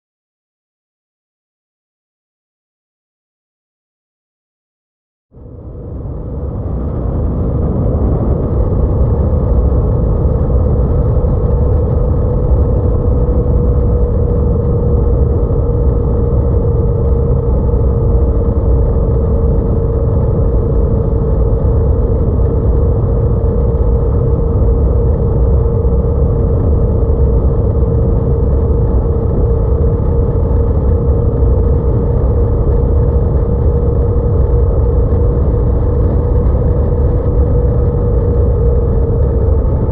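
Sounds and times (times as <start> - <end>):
road rumble: 5.3 - 39.9.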